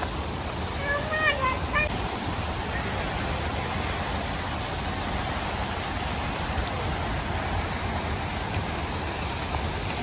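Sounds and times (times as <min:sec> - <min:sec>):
water falling like heavy rain: 0:00.0 - 0:10.0.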